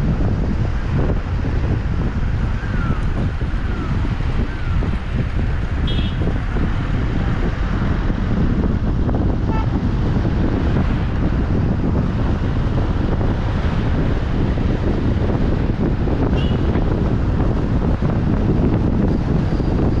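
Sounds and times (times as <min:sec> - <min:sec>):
car driving on road: 0:00.0 - 0:20.0
wind buffeting microphone: 0:00.0 - 0:20.0.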